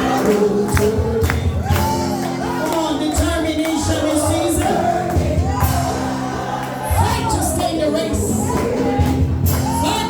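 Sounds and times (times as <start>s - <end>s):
person singing: 0.0s - 5.9s, 6.9s - 10.0s
regular percussive beat: 0.0s - 10.0s.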